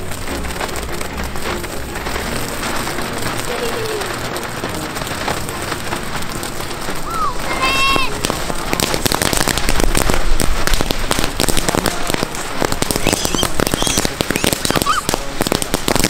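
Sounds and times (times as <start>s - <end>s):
fountain firework crackling: 0.0s - 16.0s.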